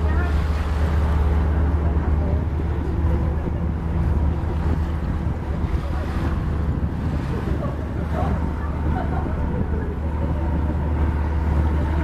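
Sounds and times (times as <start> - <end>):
boat engine drone: 0.0 - 12.0
water wash: 0.0 - 12.0
wind buffeting microphone: 0.0 - 12.0.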